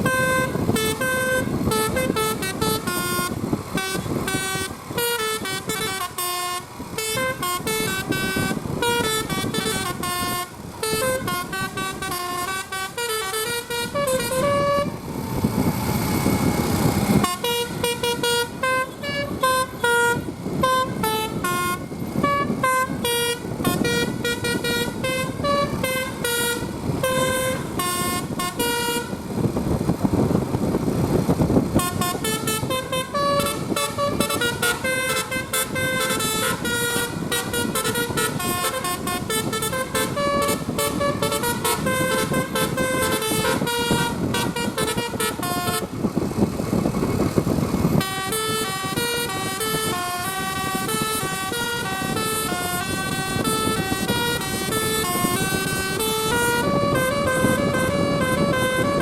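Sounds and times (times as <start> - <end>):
multi-tone air horn melody: 0.0 - 15.0, 17.1 - 29.4, 31.7 - 46.0, 47.9 - 59.0.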